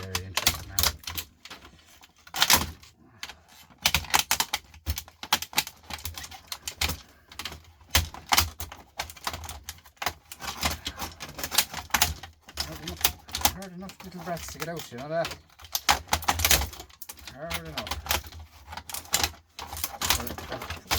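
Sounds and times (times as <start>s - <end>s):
plastic clips clicking and clattering: 0.0s - 20.9s.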